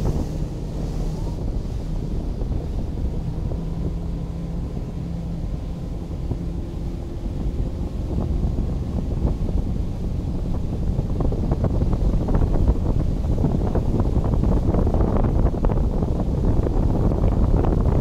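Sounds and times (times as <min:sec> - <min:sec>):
speedboat engine droning: 0:00.0 - 0:18.0
wind buffeting microphone: 0:00.0 - 0:18.0.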